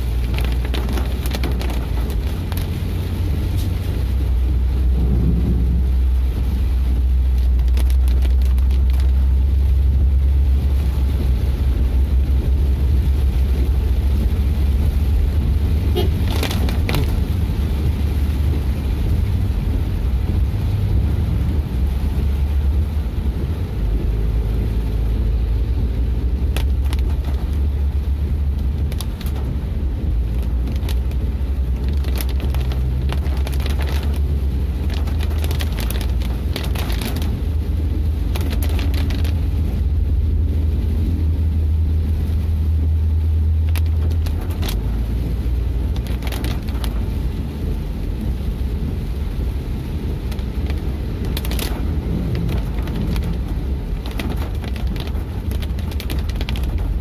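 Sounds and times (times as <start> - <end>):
car engine and tyres rumbling: 0.0 - 57.0
raindrops tapping on car: 0.0 - 57.0.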